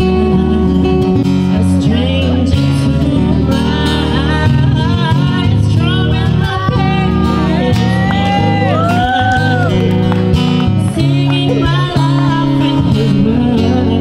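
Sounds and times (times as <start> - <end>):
acoustic guitar: 0.0 - 14.0
person singing into microphone: 0.0 - 14.0.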